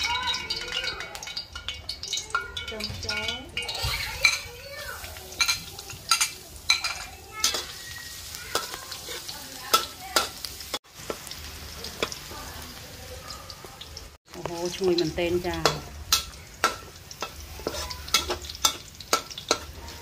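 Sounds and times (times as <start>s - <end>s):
garlic sizzling in hot oil: 0.0s - 20.0s
metal spoon scraping wok: 1.2s - 12.6s, 14.3s - 20.0s.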